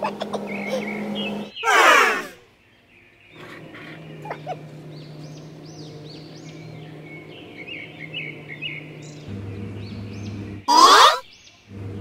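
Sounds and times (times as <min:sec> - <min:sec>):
steady low hum: 0:00.0 - 0:02.3, 0:03.2 - 0:12.0
birds chirping: 0:00.0 - 0:12.0.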